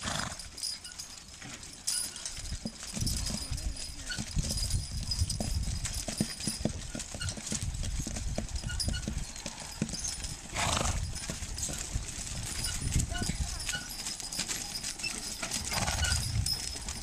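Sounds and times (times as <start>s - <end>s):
hooves thudding on soft ground: 0.0s - 17.0s.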